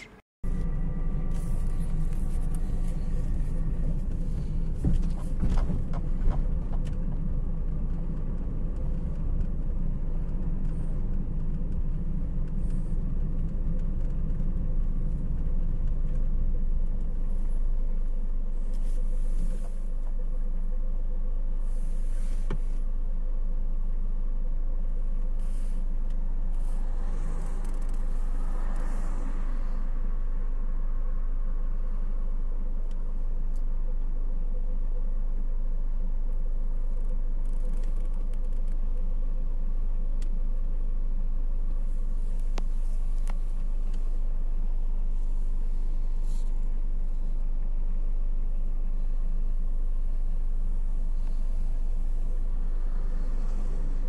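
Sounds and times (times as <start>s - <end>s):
car cabin engine and road rumble: 0.0s - 54.0s.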